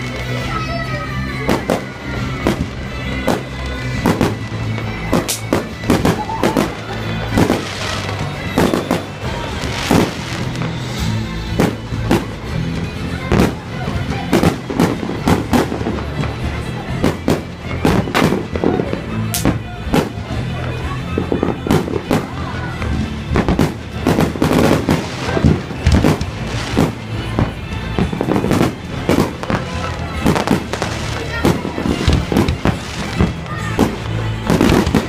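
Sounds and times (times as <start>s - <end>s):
fireworks bangs and crackles: 0.0s - 35.0s
fireworks hissing bursts: 0.0s - 35.0s
music playing: 0.0s - 35.0s.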